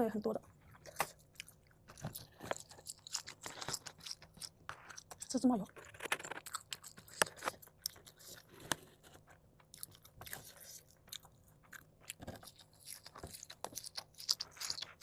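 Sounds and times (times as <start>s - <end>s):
person chewing crunchy snack: 0.6s - 15.0s.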